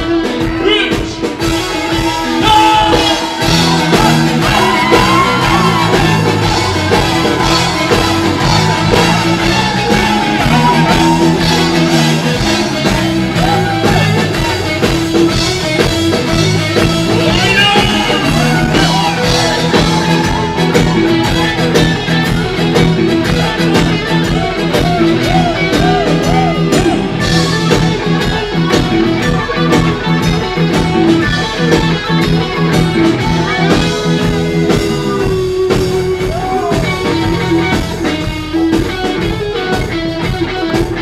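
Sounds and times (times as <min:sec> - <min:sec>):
rock band playing live: 0:00.0 - 0:41.0.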